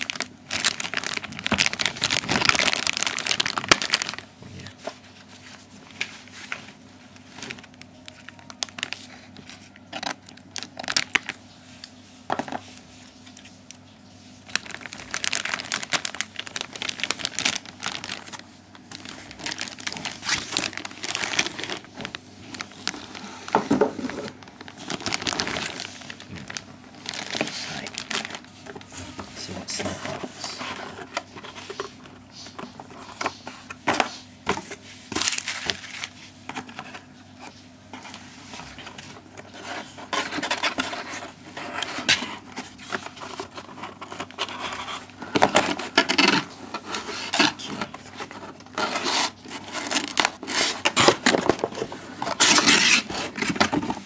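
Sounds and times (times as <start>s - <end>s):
plastic packaging crinkling: 0.0s - 4.4s, 5.2s - 11.5s, 13.2s - 54.0s.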